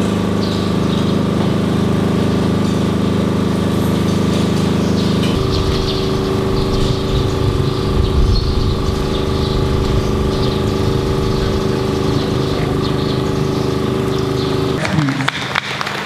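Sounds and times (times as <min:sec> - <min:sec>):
engine droning hum: 0:00.0 - 0:16.0.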